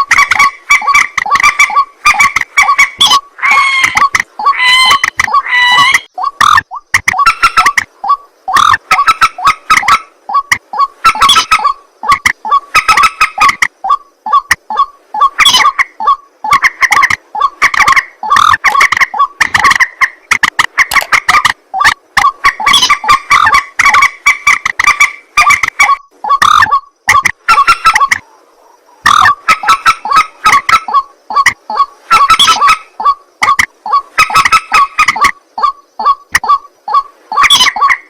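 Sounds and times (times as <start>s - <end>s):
waterhen calling harsh notes: 0.0s - 28.3s, 29.0s - 38.0s.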